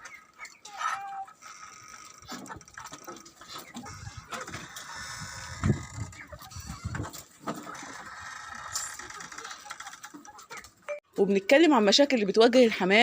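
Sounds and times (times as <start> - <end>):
poultry calling: 0.0 - 10.8.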